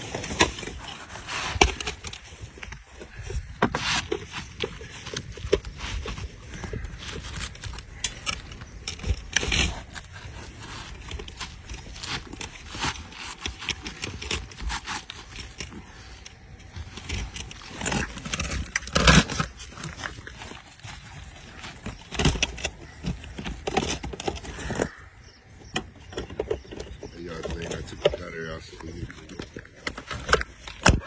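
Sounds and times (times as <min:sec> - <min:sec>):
roofing shingles scraping and rustling: 0:00.0 - 0:25.1.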